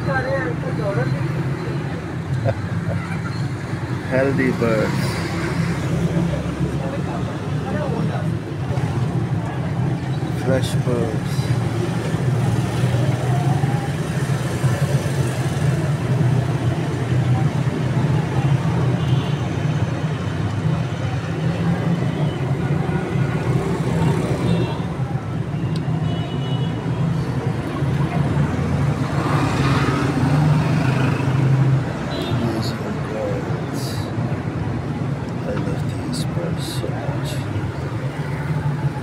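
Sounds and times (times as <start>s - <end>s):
road traffic hum: 0.0s - 39.0s.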